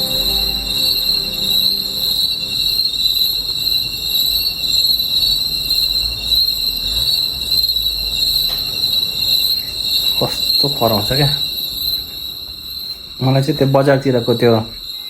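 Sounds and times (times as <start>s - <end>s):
insects chirping drone: 0.0s - 15.0s.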